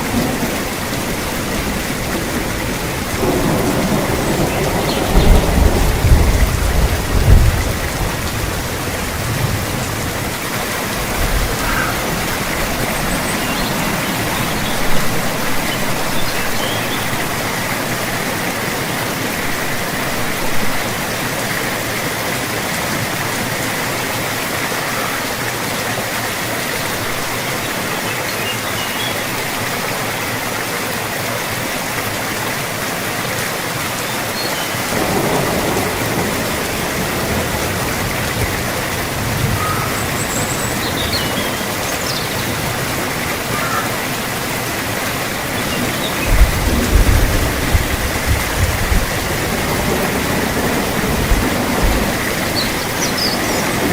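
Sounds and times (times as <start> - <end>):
dense rain falling: 0.0 - 53.9.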